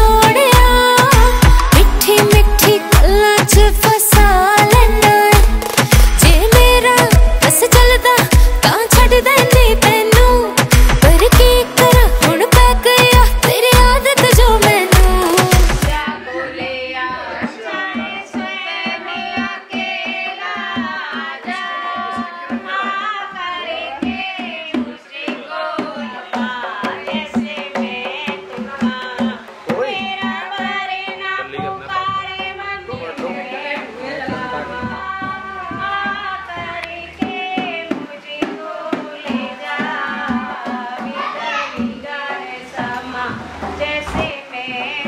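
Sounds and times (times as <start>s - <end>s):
song with hand-drum percussion: 0.0s - 45.0s.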